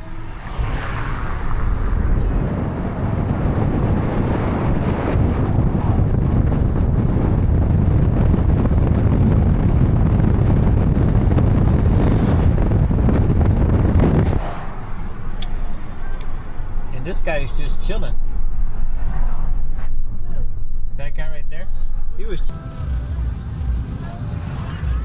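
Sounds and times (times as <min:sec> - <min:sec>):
wind buffeting microphone: 0:00.0 - 0:21.0
road noise: 0:00.0 - 0:25.0.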